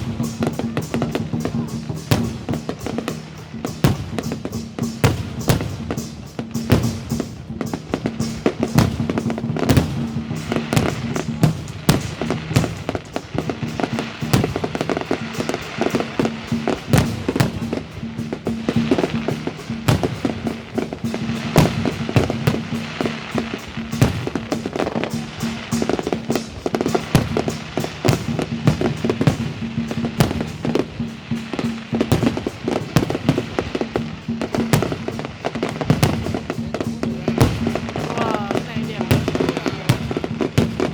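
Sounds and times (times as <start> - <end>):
fireworks bangs: 0.0 - 40.9
music playing: 0.0 - 40.9.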